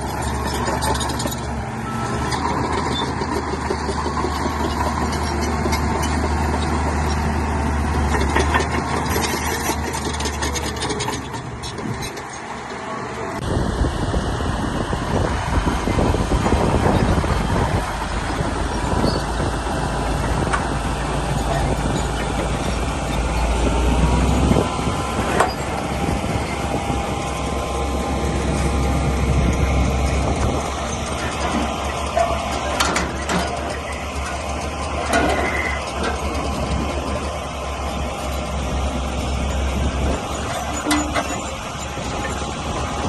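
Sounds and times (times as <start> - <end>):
bulldozer diesel engine rumbling: 0.0 - 43.0.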